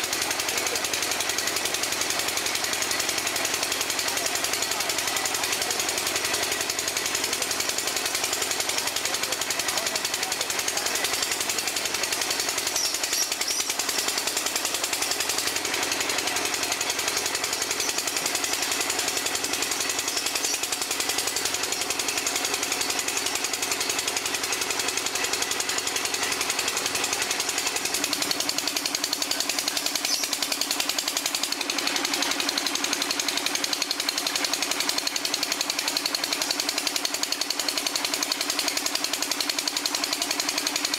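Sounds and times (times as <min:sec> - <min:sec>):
drilling rig hammering: 0:00.0 - 0:40.9.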